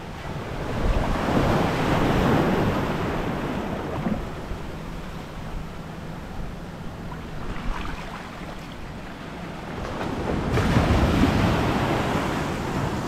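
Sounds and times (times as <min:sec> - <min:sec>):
ocean surf washing on beach: 0:00.0 - 0:06.4, 0:07.0 - 0:13.0.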